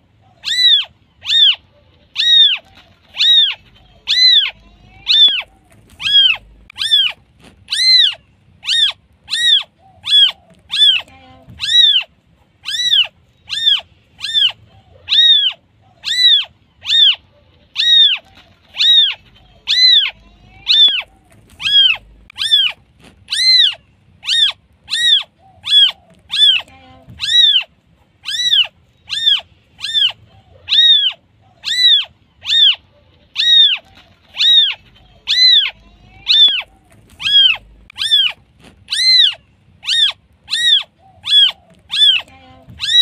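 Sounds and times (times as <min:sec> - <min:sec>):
kitten meowing: 0:00.4 - 0:01.6, 0:02.2 - 0:17.2, 0:17.8 - 0:32.8, 0:33.4 - 0:43.0.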